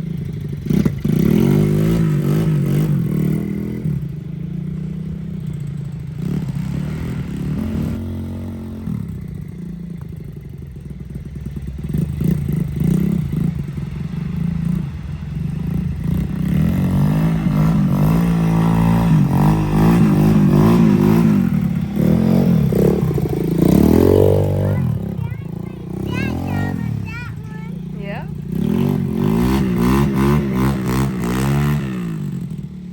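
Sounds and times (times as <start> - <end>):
dirt bike engine revving: 0.0 - 4.1, 4.7 - 9.2, 11.8 - 32.9.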